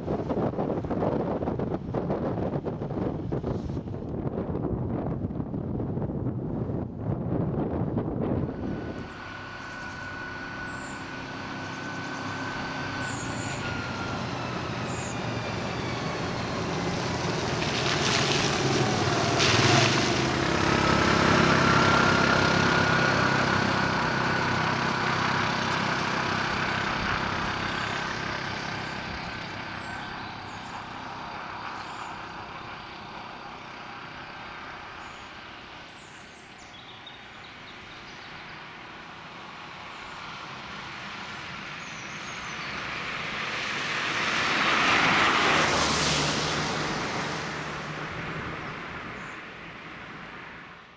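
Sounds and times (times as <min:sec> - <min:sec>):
quad bike engine passing by: 0:07.3 - 0:50.8.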